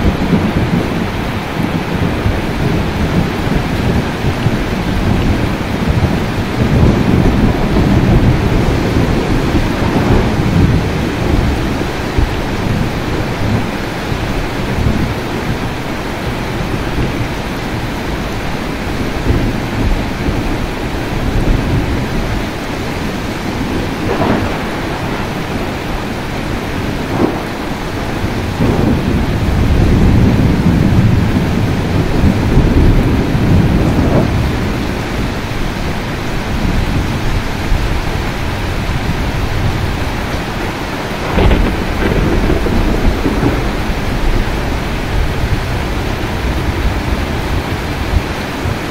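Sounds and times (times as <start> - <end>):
rain falling steadily: 0.0 - 48.9
rolling thunder rumbles: 0.0 - 48.9
thunder cracks: 0.0 - 48.9.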